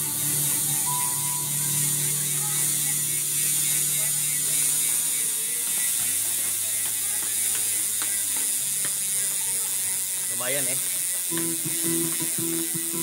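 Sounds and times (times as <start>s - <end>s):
bicycle hub freewheel buzz: 0.0s - 13.0s.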